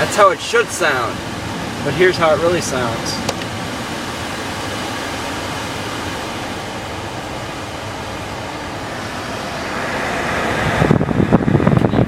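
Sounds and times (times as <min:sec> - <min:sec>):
car blower fan running: 0:00.0 - 0:12.0.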